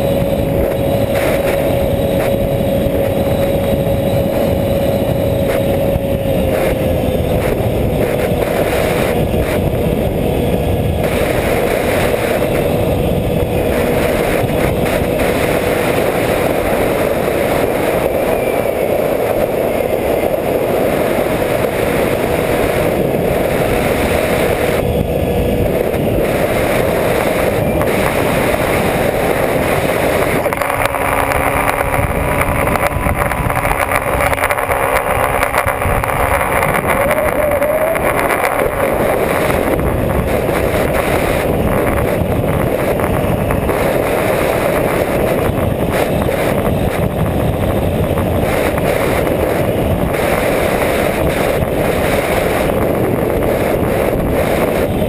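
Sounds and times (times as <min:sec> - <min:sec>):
electric motor and propeller: 0:00.0 - 0:55.0
wind rushing over microphone: 0:00.0 - 0:55.0.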